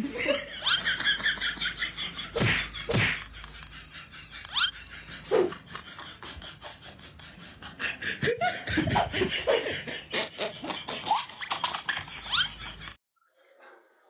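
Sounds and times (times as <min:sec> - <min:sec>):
laughter in quick pulses: 0:00.0 - 0:13.0.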